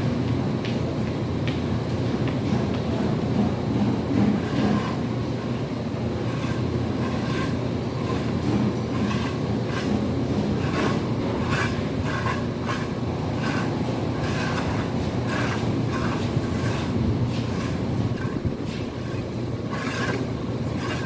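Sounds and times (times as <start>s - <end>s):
low machine rumble: 1.9s - 21.0s.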